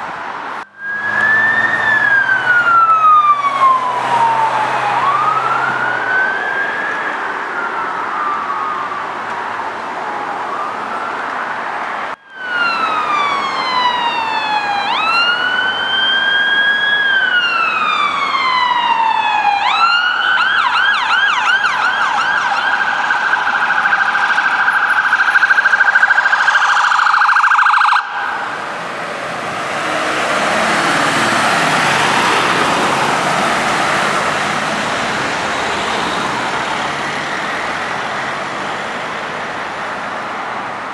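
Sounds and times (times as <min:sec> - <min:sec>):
road traffic noise: 0:00.0 - 0:40.9
emergency siren wailing and yelping: 0:00.2 - 0:40.9.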